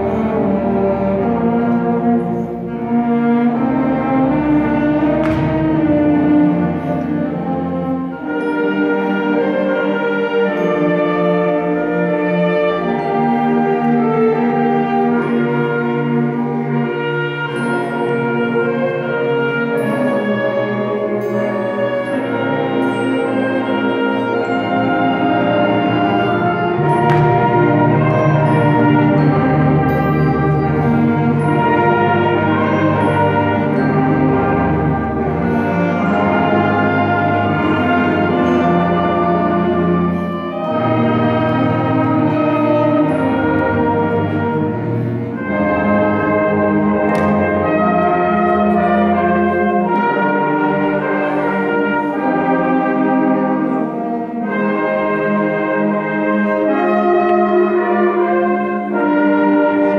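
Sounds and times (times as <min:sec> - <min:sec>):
band playing long held chords: 0:00.0 - 0:59.9.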